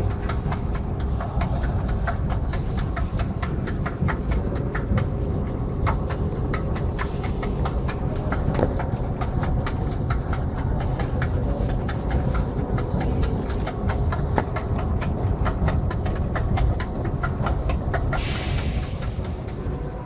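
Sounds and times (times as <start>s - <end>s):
escalator rumbling: 0.0s - 20.0s
escalator steps clicking: 0.0s - 20.0s.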